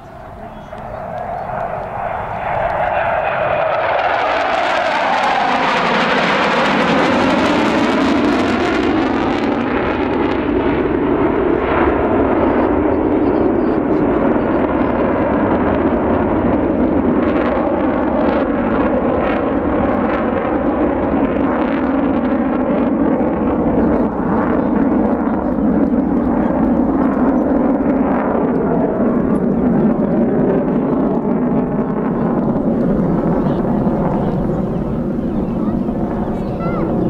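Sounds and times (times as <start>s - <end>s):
jet aircraft flying past: 0.0s - 37.0s.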